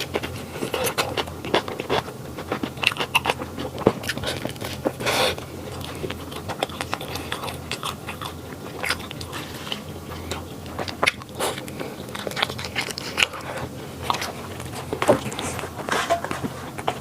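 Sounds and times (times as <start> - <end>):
crunching flaky pastry: 0.0 - 17.0.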